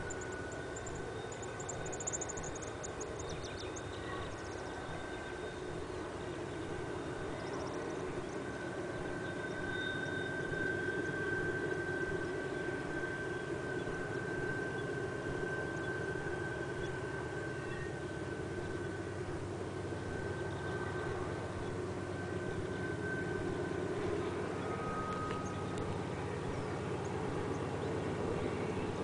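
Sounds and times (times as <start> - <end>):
distant locomotive engine drone: 0.0 - 29.0
high whine: 0.0 - 29.0.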